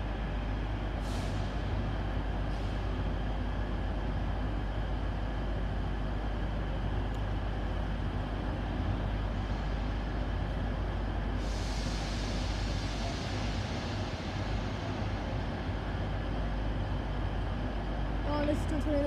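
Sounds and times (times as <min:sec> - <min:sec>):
idling train engines rumble: 0:00.0 - 0:19.0.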